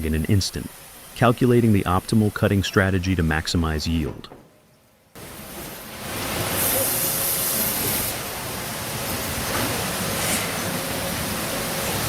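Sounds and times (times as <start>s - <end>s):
sawmill machinery hiss and rumble: 0.0s - 4.2s, 5.2s - 12.0s.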